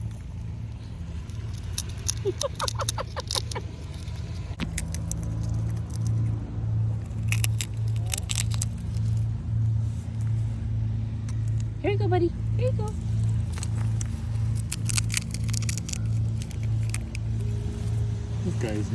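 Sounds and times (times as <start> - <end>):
squirrel cracking nuts: 0.0 - 11.8, 12.8 - 18.9
steady low hum: 0.0 - 18.9.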